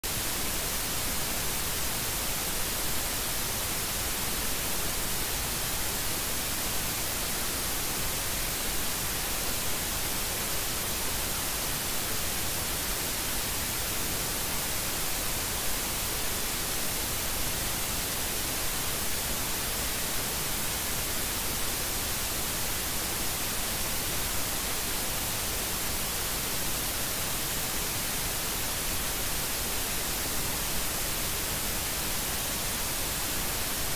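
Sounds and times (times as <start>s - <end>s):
static hiss: 0.0s - 33.9s.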